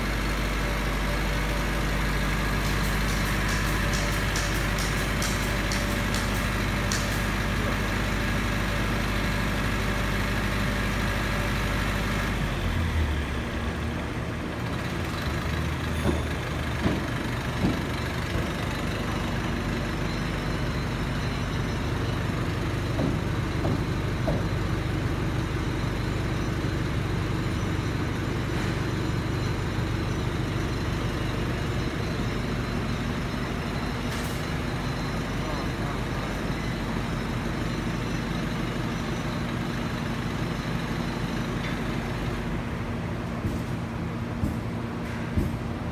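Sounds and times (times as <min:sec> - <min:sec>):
diesel generator humming: 0:00.0 - 0:45.9.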